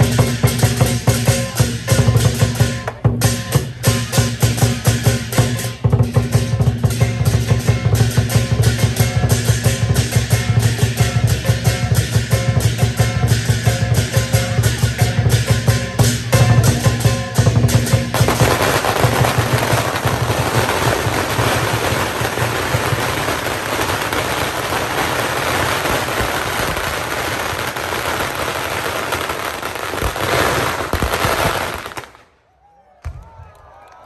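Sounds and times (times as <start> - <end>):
firecrackers crackling: 0.0 - 32.4.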